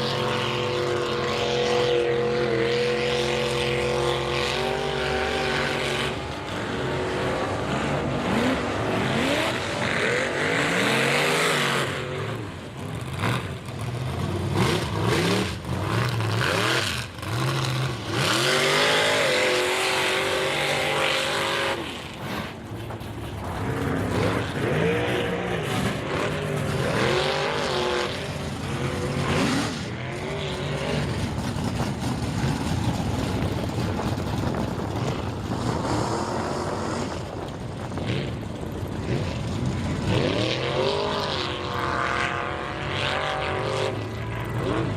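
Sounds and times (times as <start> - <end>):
truck engine revving hard: 0.0 - 22.6, 23.4 - 33.5, 34.5 - 44.9.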